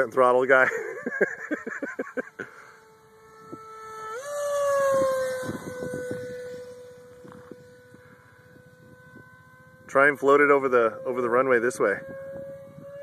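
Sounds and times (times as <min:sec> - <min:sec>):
model jet fan whine: 0:00.0 - 0:13.0.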